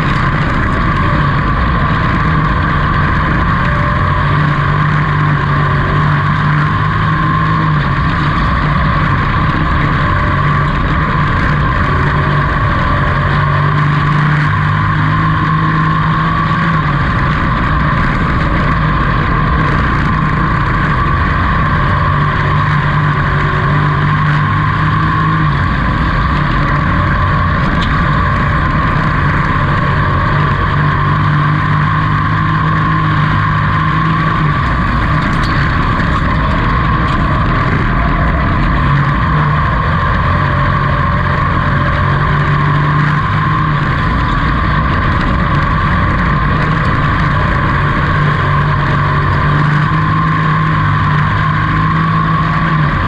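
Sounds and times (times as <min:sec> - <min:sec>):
race engine running hard: 0:00.0 - 0:53.0
wind and tyre roar: 0:00.0 - 0:53.0.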